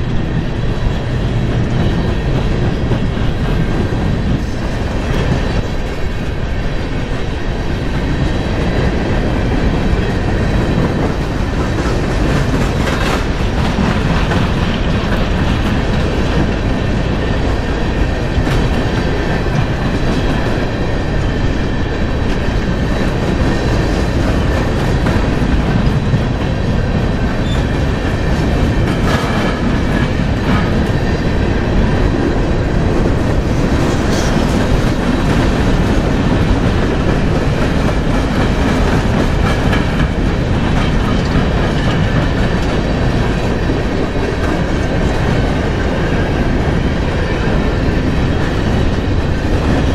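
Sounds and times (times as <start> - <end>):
train wheels rumbling on rails: 0.0 - 49.9
wheels clickety-clack over joints: 0.2 - 6.2, 7.8 - 21.4, 22.0 - 49.9.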